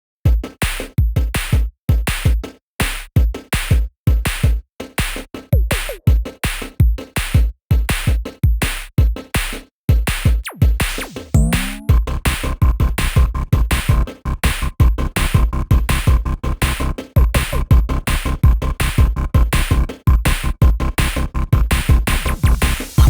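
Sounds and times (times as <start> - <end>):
drum-machine beat with bass kicks: 0.3 - 23.0.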